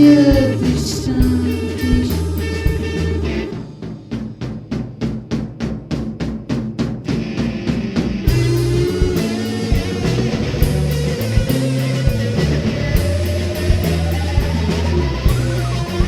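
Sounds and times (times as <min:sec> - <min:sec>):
sustained guitar note rising: 0:00.0 - 0:04.2, 0:07.1 - 0:16.0
rock band playing live: 0:00.0 - 0:05.1, 0:05.8 - 0:16.0
drum fill: 0:00.0 - 0:16.0.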